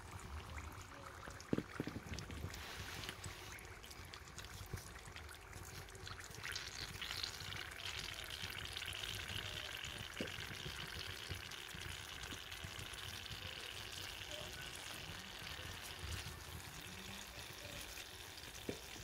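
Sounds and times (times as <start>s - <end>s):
hot fat sizzling: 1.4s - 19.0s.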